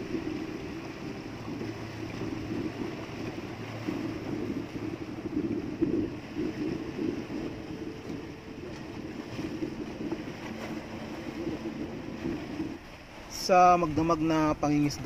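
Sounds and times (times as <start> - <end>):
boat engine running: 0.0 - 15.0
water splashing against wooden hull: 0.0 - 15.0.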